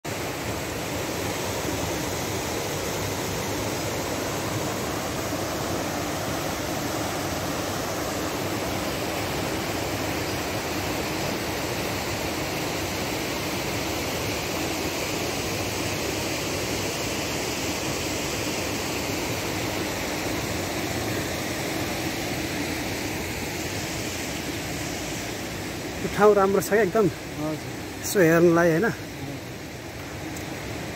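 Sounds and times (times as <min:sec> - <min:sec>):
steady rushing noise: 0:00.0 - 0:30.9.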